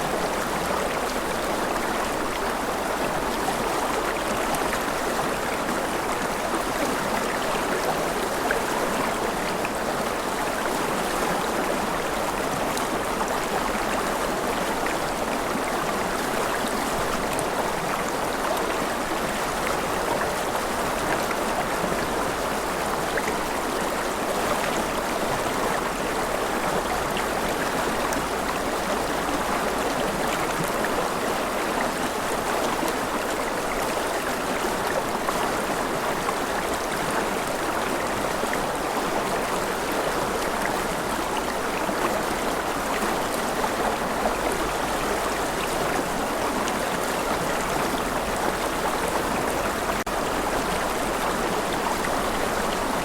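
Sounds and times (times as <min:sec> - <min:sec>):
gentle rain: 0:00.0 - 0:53.0.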